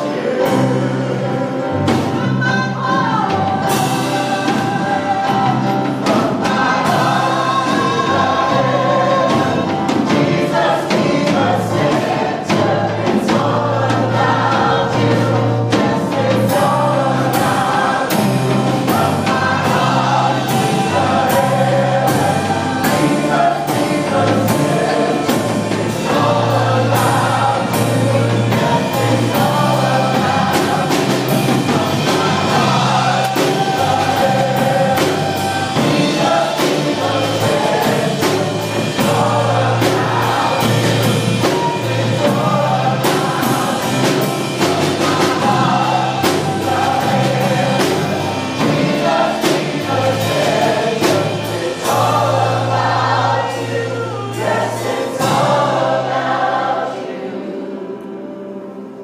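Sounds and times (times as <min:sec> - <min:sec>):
drum kit playing a steady beat: 0:00.0 - 0:56.9
people singing together: 0:00.0 - 0:59.0.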